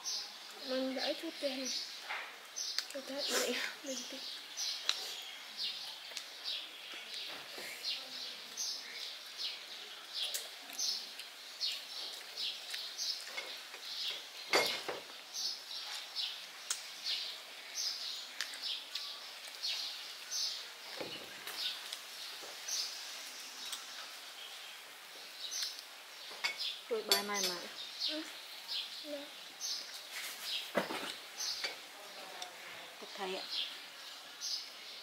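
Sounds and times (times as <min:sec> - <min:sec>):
small bird chirping: 0:00.0 - 0:35.0.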